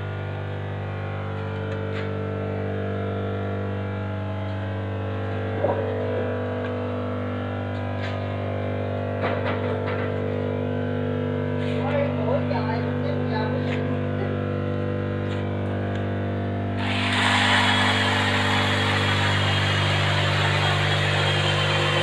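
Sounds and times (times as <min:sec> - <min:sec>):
electrical machine hum: 0:00.0 - 0:22.0.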